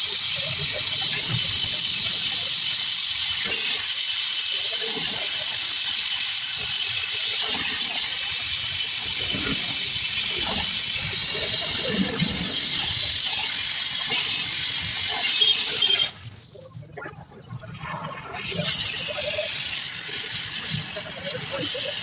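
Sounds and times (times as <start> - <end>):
welding torch flame hissing: 0.0 - 16.3, 18.5 - 22.0.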